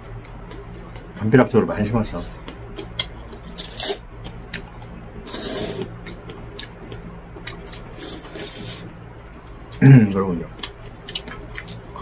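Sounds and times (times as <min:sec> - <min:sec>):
man chewing noodles: 0:00.0 - 0:01.2, 0:02.3 - 0:09.8, 0:10.5 - 0:12.0
steady low hum: 0:00.0 - 0:12.0.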